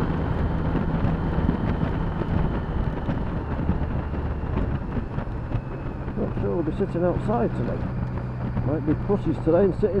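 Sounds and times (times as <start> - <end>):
motorcycle engine hum: 0.0 - 10.0
wind noise on microphone: 0.0 - 10.0.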